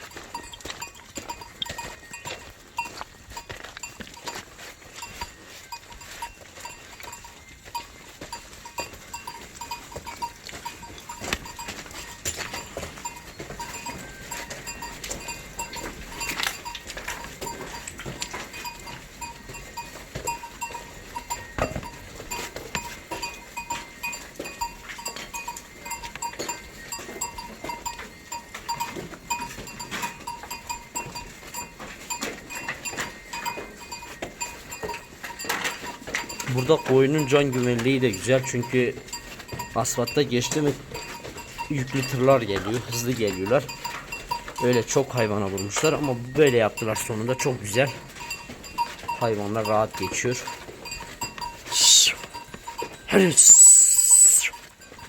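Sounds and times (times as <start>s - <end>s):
hooves clicking and knocking: 0.0s - 55.0s
sheep bells clinking: 0.0s - 55.0s.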